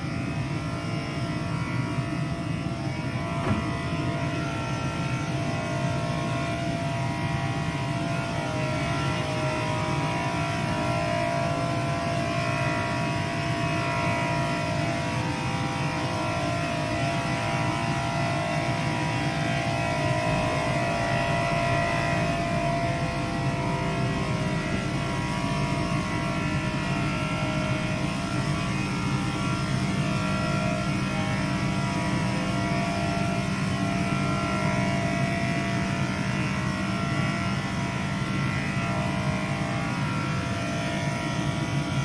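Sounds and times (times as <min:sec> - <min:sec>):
steady machine hum: 0:00.0 - 0:42.0.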